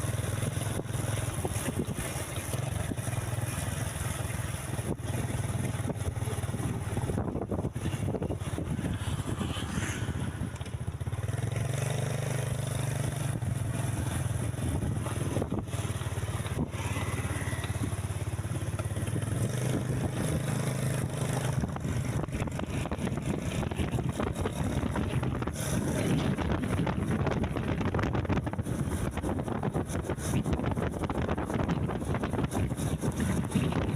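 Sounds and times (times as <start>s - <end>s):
traffic noise: 0.0s - 31.7s
large vehicle engine humming: 0.0s - 33.9s.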